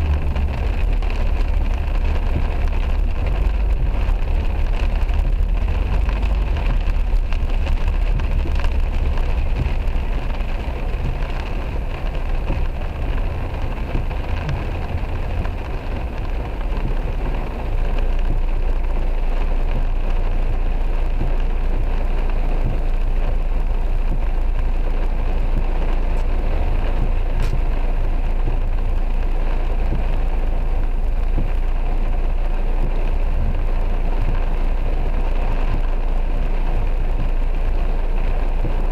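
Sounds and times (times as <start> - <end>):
heavy rain on a car roof: 0.0 - 38.9
low rumble of engine and road: 0.0 - 38.9.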